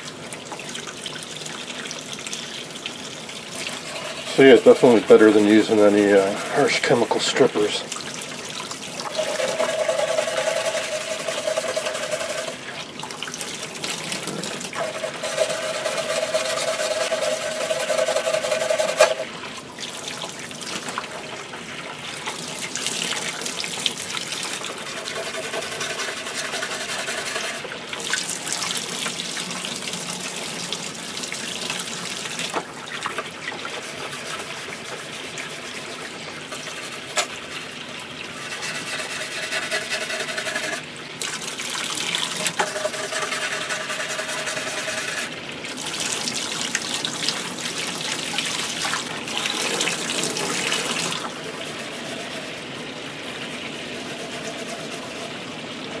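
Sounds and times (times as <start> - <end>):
faucet water splashing: 0.0 - 56.0.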